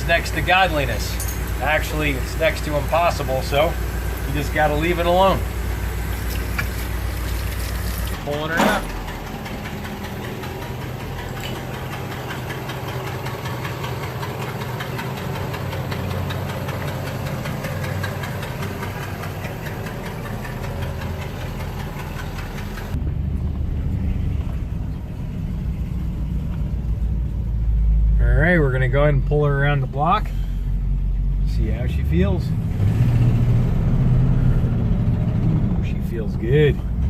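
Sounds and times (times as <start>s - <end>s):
car engine running with ticking: 0.0s - 37.0s.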